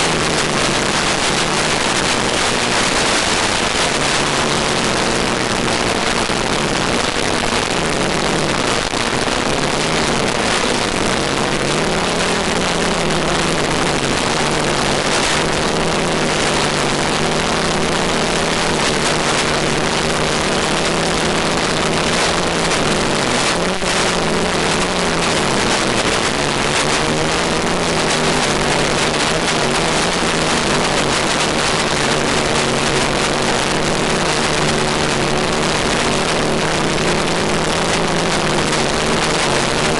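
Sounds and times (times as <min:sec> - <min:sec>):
drone motors and propellers: 0:00.0 - 0:39.9
heavy steady hiss: 0:00.0 - 0:39.9.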